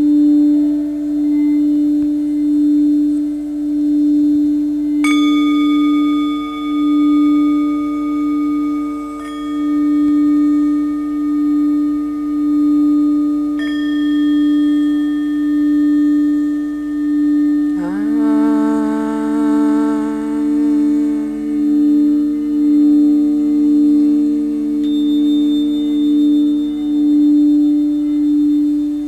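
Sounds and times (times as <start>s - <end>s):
singing bowl deep tone: 0.0s - 29.0s
struck instrument ringing: 3.8s - 29.0s.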